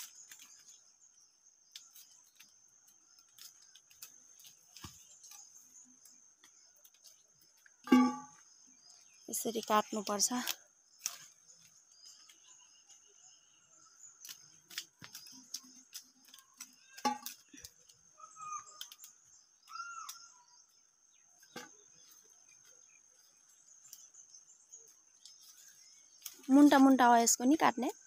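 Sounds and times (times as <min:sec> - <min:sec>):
sickle cutting leafy stems: 0:00.0 - 0:07.8, 0:09.6 - 0:12.8, 0:13.8 - 0:20.6, 0:21.3 - 0:27.6
bird chirping: 0:00.0 - 0:27.0
insects droning: 0:00.0 - 0:28.0.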